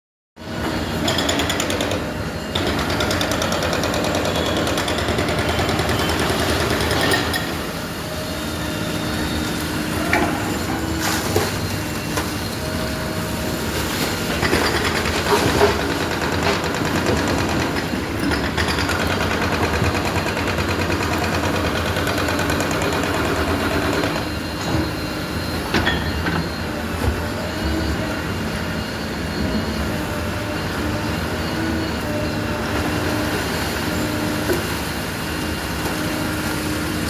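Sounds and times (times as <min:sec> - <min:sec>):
construction machinery running: 0:00.4 - 0:37.0.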